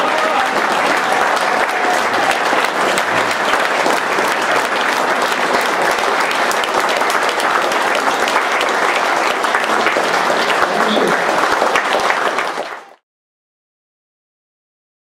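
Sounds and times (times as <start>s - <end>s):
audience applause: 0.0s - 13.0s.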